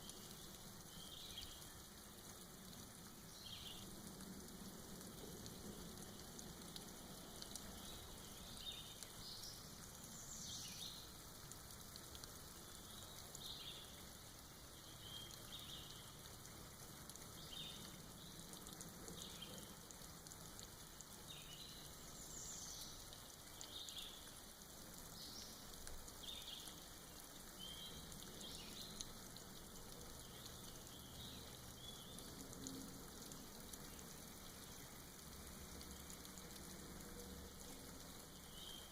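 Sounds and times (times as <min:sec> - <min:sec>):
light rain dripping: 0:00.0 - 0:38.9.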